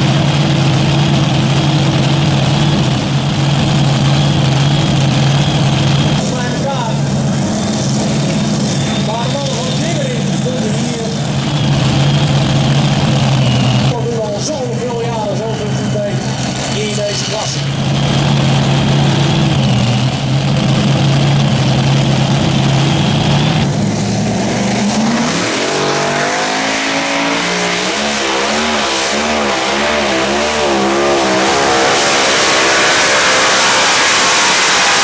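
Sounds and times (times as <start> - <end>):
pulling tractor engines revving: 0.0 - 35.0.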